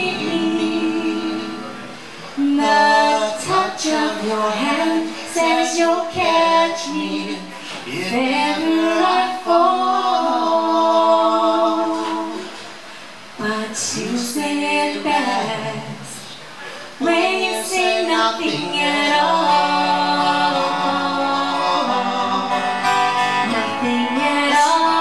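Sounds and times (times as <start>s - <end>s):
woman singing a slow ballad: 2.4s - 12.6s, 13.4s - 16.4s, 17.0s - 22.6s, 23.4s - 25.0s.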